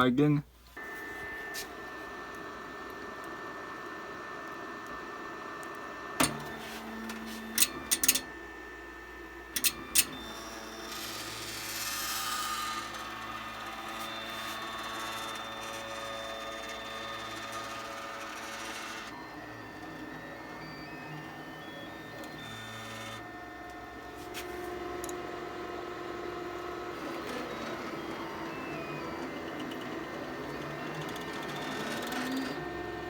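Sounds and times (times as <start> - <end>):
stepper motors whining: 0.8 - 33.0.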